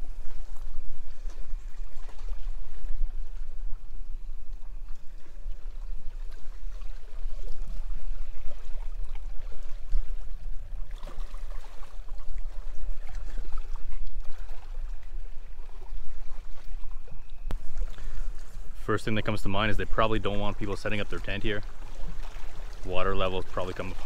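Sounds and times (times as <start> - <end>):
water lapping against rocks: 0.0 - 24.0
wind rumbling on microphone: 0.0 - 24.0.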